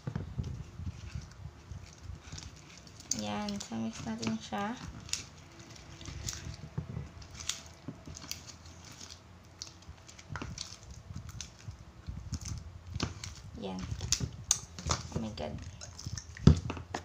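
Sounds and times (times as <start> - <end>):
wet squishing of slime: 0.3 - 17.0.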